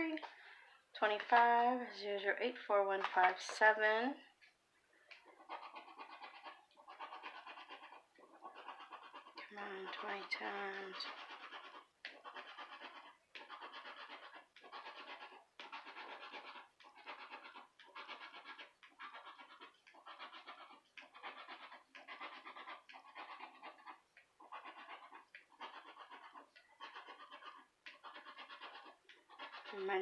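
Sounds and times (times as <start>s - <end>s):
scratching lottery ticket: 5.2s - 30.0s.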